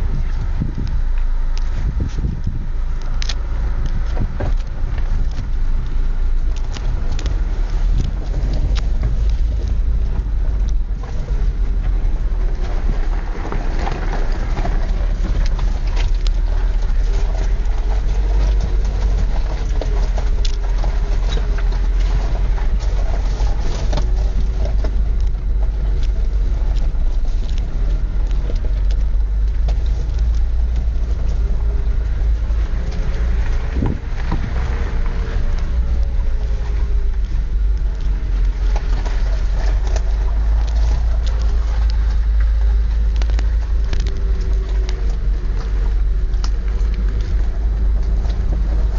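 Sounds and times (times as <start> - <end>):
engine and tyres rumbling: 0.0 - 48.9
gravel clicks and knocks: 0.0 - 48.9.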